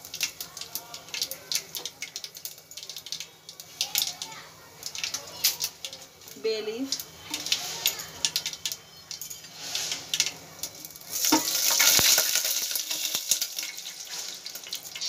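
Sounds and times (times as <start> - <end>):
spices sizzling in hot oil: 0.0 - 15.0.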